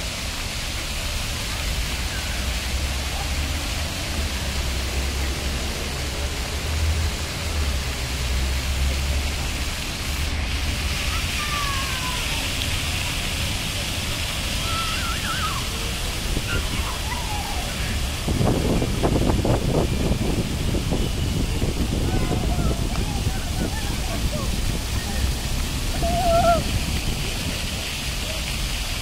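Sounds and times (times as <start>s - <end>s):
fountain water splashing: 0.0s - 29.0s.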